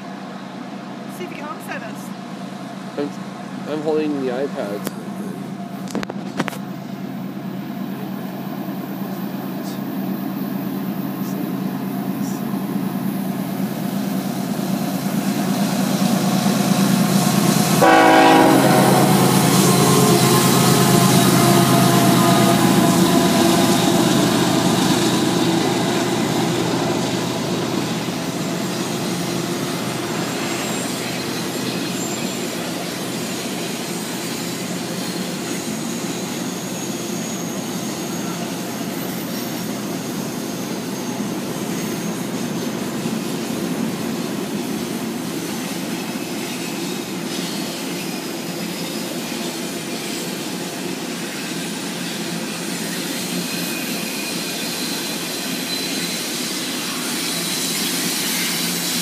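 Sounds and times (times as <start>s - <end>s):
diesel locomotive engine: 0.0s - 59.0s
train wheel squeal: 6.7s - 59.0s.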